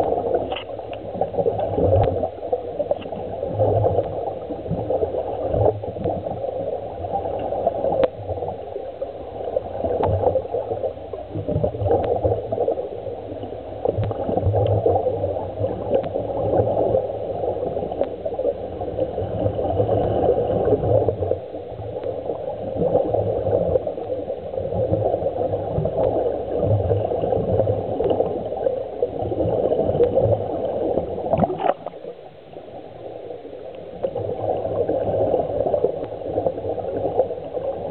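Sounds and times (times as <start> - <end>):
underwater air bubbling: 0.0 - 37.9.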